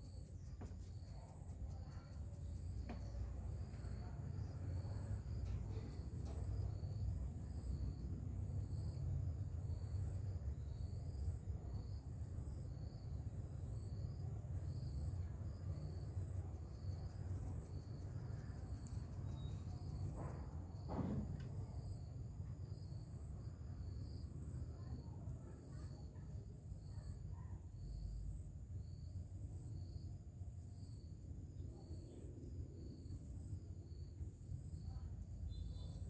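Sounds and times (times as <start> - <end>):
high pulsing insect chirp: 0.0 - 36.0
low outdoor rumble: 0.0 - 36.0.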